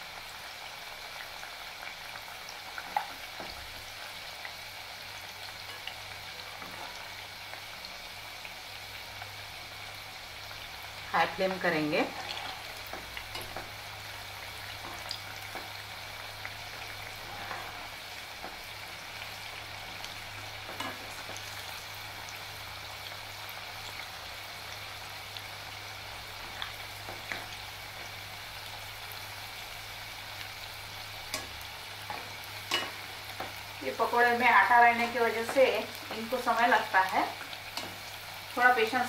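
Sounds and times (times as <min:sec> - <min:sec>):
food sizzling in hot oil: 0:00.0 - 0:39.0.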